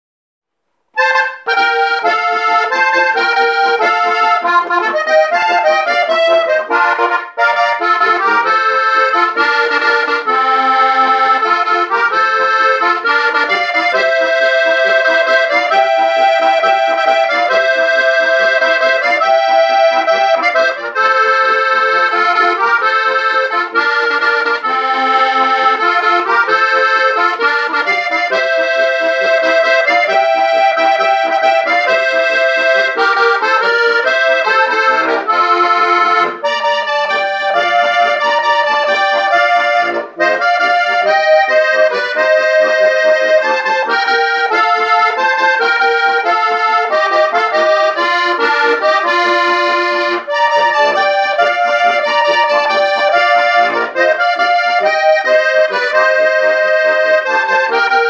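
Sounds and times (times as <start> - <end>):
button accordion playing: 0.9 - 58.0.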